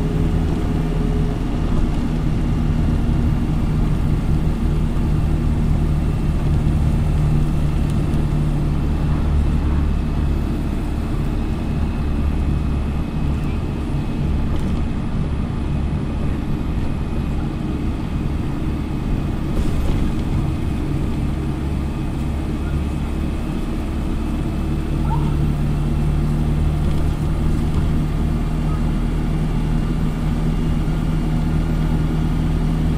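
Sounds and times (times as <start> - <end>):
road and tyre noise: 0.0 - 32.9.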